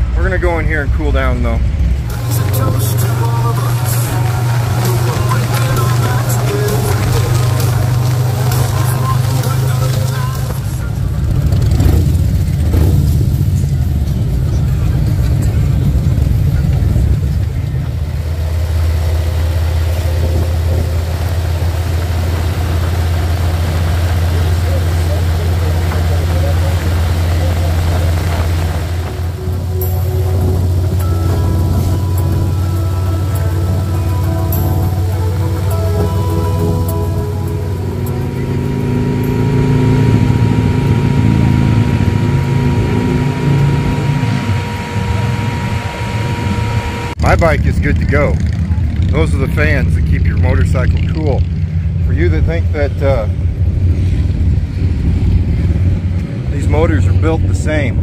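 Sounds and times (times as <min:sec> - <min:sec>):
cooling fans whining: 0:00.0 - 0:58.0
wind noise: 0:00.8 - 0:58.0
motorcycle engine running: 0:01.6 - 0:58.0.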